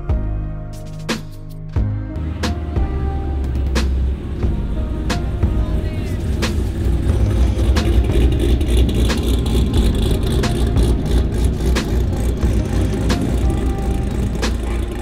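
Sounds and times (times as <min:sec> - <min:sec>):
background music with slow beat: 0:00.0 - 0:15.0
car engine rumbling: 0:02.1 - 0:15.0.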